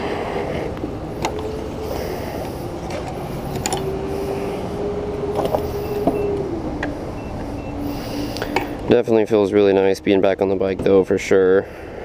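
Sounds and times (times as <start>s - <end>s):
motorcycle engine droning: 0.0s - 11.9s.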